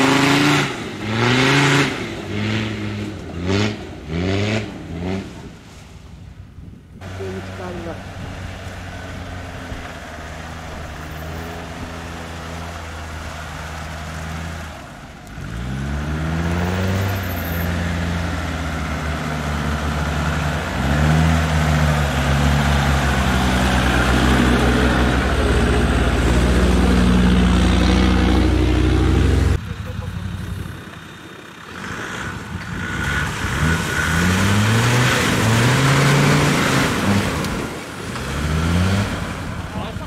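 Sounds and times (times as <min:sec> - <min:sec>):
truck engine revving: 0:00.0 - 0:05.6, 0:07.0 - 0:40.0.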